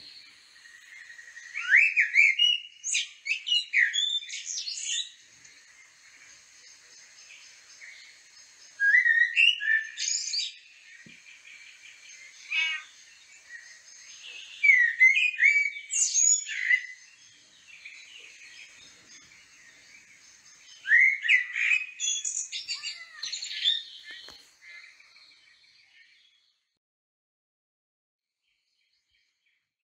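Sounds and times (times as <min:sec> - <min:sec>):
faint high twittering: 0:00.0 - 0:26.6
songbird singing chirps and whistles: 0:00.0 - 0:26.8.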